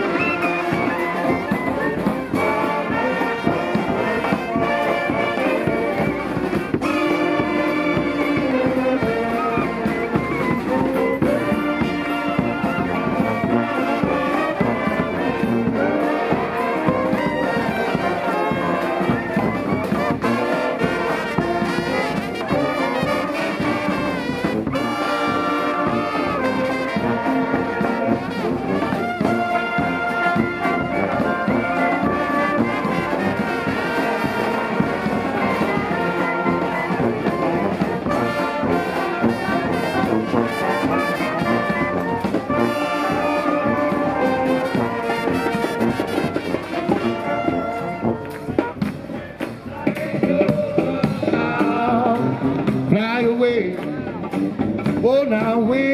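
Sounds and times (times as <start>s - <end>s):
brass band playing: 0.0s - 55.9s.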